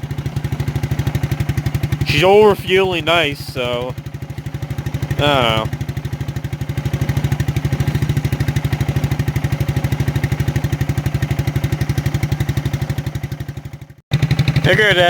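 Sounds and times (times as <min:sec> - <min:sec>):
quad bike engine idling: 0:00.0 - 0:15.0.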